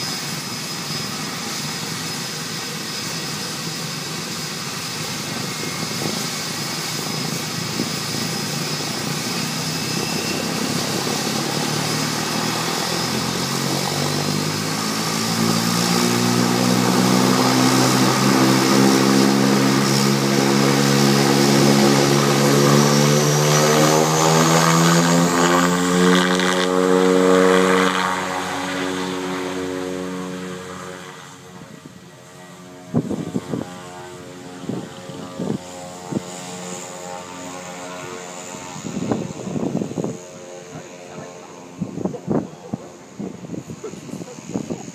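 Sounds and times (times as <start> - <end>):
propeller hum: 0.0 - 44.9
turbine whine: 0.0 - 44.9.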